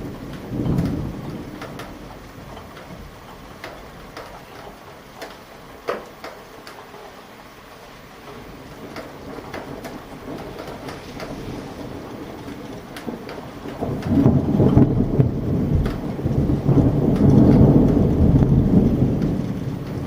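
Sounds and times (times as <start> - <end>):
raindrops ticking: 0.0 - 20.0
thunder rumbling: 0.0 - 20.0.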